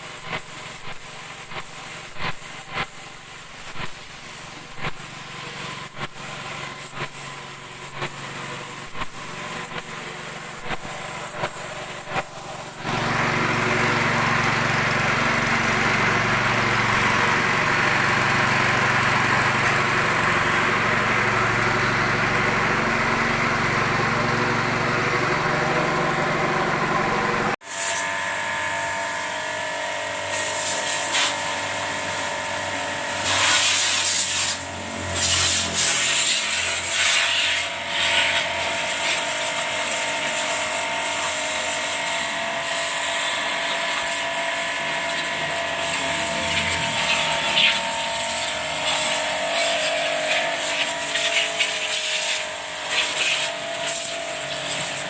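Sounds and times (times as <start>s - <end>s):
power tool running: 0.0s - 55.0s
steady machine noise: 0.0s - 55.0s.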